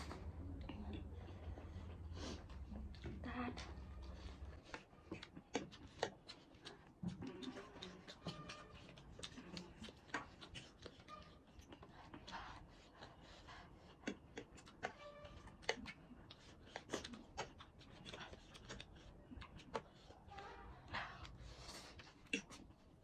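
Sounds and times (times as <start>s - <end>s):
chewing and slurping noodles: 0.0s - 23.0s.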